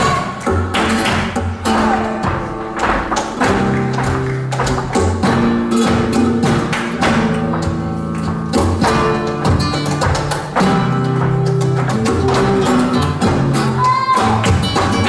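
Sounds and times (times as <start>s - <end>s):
flamenco guitar: 0.0s - 15.0s
hand clapping: 0.0s - 15.0s
shoes striking stage: 0.0s - 15.0s.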